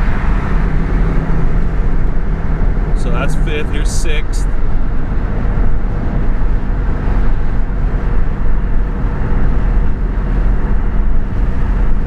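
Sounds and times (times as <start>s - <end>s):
low engine hum: 0.0s - 12.0s
road noise: 0.0s - 12.0s.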